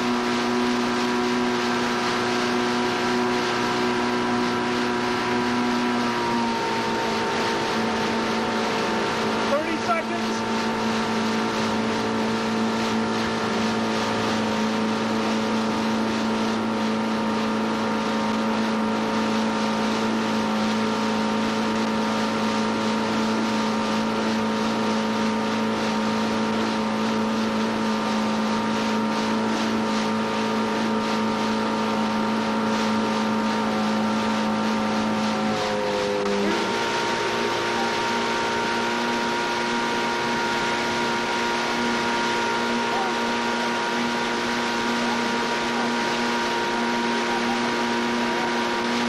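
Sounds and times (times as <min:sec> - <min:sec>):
outboard motor droning: 0:00.0 - 0:49.0
water wash: 0:00.0 - 0:49.0.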